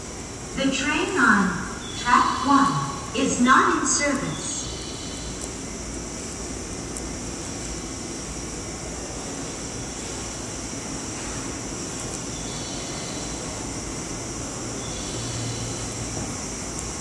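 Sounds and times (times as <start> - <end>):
train equipment hum and hiss: 0.0 - 17.0.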